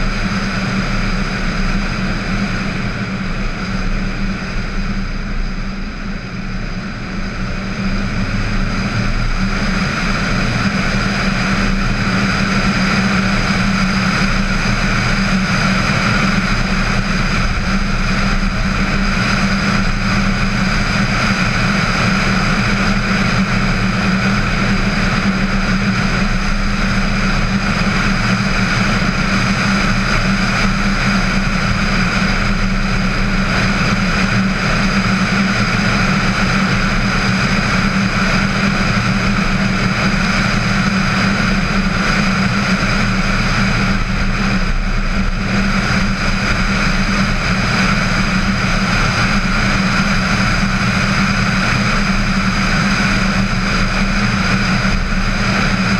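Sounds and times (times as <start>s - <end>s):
car wind and road noise: 0.0s - 55.9s.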